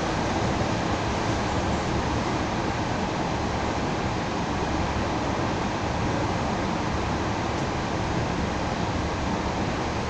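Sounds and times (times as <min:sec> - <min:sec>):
train wheels on rails inside carriage: 0:00.0 - 0:10.0.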